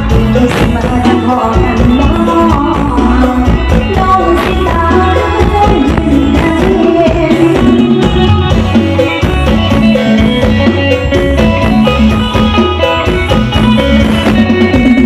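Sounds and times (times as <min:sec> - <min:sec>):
heavy bass: 0:00.0 - 0:15.0
loud music over speakers: 0:00.0 - 0:15.0.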